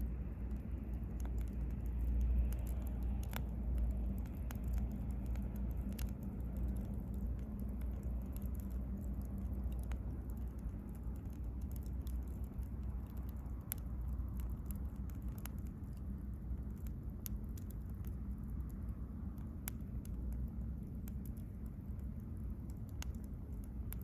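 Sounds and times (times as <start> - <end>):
low steady rumble: 0.0 - 24.0
wood bonfire crackling: 0.0 - 24.0.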